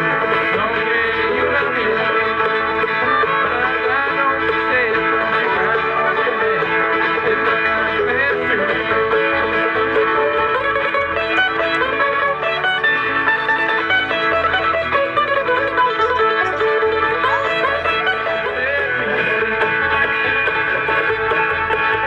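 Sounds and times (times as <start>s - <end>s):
acoustic guitar: 0.0s - 22.0s
banjo picking: 0.0s - 22.0s
mandolin picking: 0.0s - 22.0s
upright bass: 0.0s - 22.0s.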